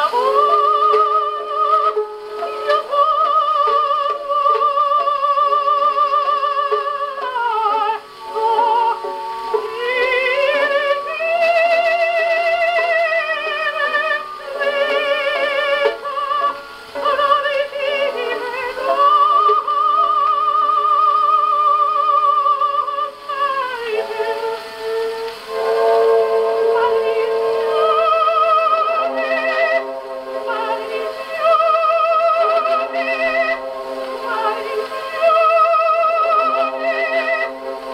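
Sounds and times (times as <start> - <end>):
gramophone playing operatic melody: 0.0 - 37.9.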